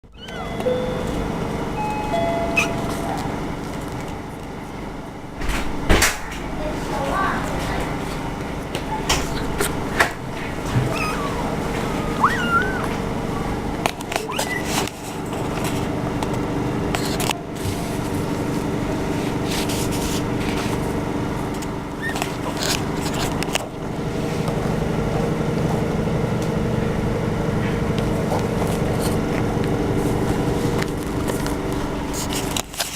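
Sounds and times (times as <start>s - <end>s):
mechanical hum: 0.0s - 32.9s.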